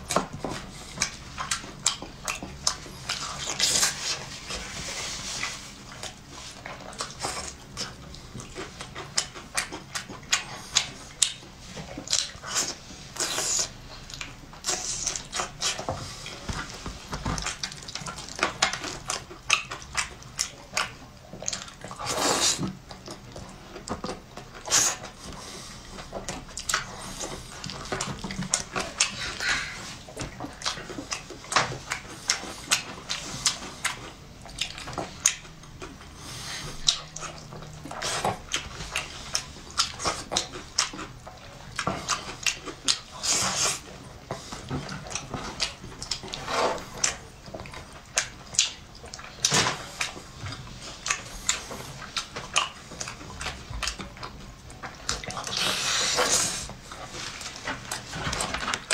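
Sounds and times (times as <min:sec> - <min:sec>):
man chewing meat: 0:00.0 - 0:58.9.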